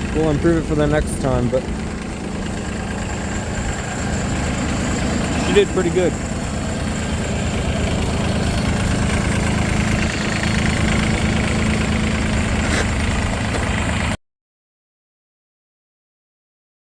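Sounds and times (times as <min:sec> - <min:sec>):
tractor engine idling: 0:00.0 - 0:14.2.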